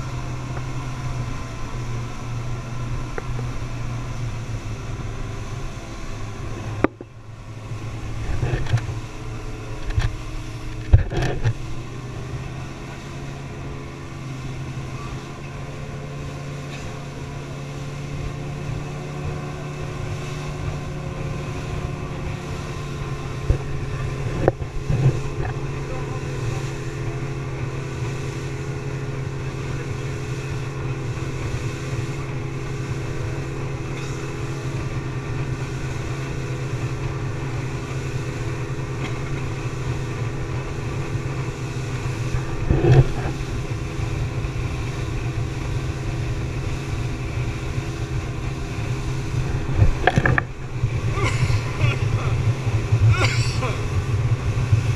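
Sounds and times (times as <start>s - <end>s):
speedboat engine humming: 0.0s - 54.9s
water rushing past hull: 0.0s - 54.9s.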